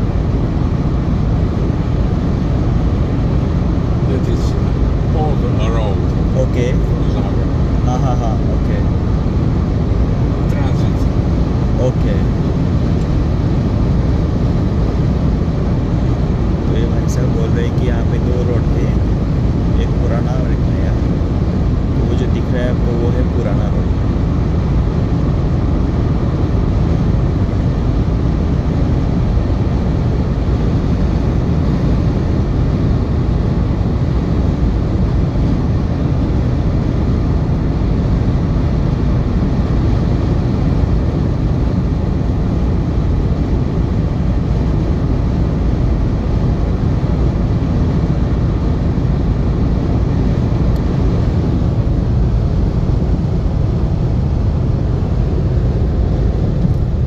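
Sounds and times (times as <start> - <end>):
car tyre and wind rumble: 0.0 - 57.0.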